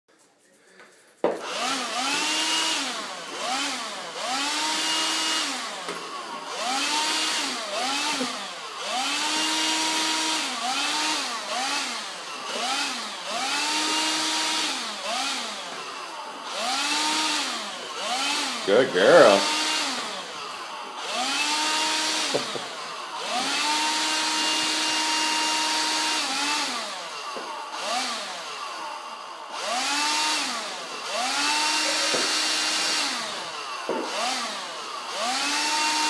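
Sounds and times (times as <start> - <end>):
vacuum cleaner running: 1.3 - 36.0.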